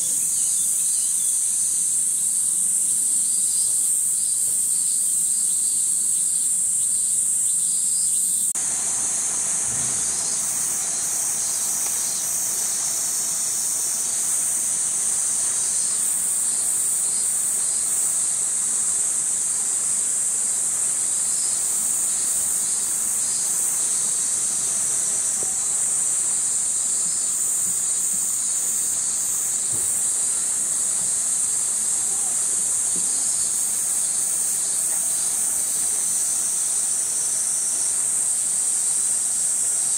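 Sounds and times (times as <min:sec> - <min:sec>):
background hiss: 0:00.0 - 0:39.9
cicadas droning: 0:00.0 - 0:39.9
pulsing insect call: 0:00.0 - 0:39.9.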